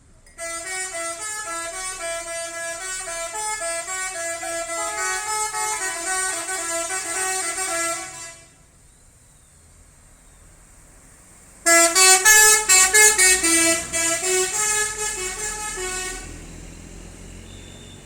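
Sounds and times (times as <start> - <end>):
multi-tone bus air horn tune: 0.3 - 8.8, 11.6 - 18.0.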